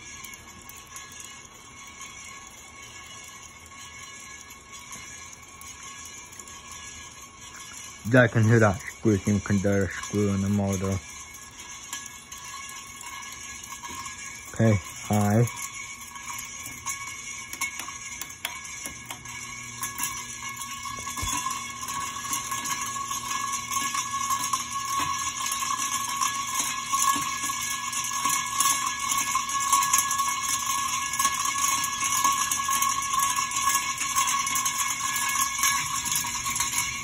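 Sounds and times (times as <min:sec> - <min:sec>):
ceiling fan running: 0:00.0 - 0:37.0
high ringing tone: 0:00.0 - 0:37.0
light ticking and squeaking: 0:00.0 - 0:37.0.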